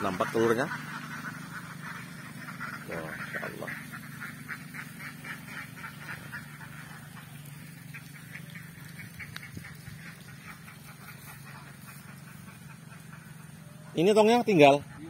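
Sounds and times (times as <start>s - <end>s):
ducks quacking: 0.0s - 15.0s
steady low hum: 0.0s - 15.0s.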